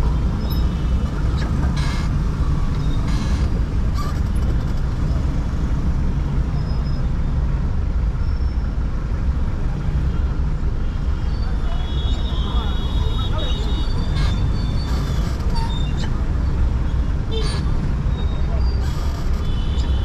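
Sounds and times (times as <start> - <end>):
traffic engines rumbling: 0.0 - 20.0.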